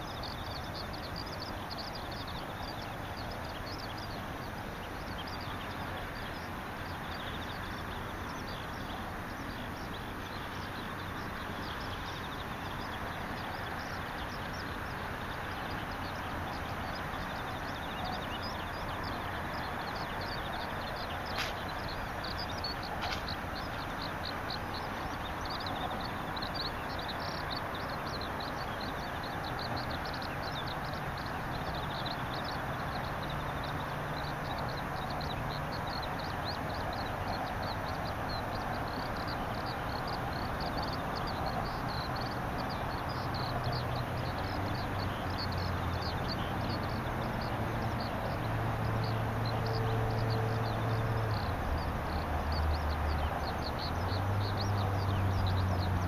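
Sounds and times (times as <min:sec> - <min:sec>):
birds and insects chirping: 0:00.0 - 0:56.0.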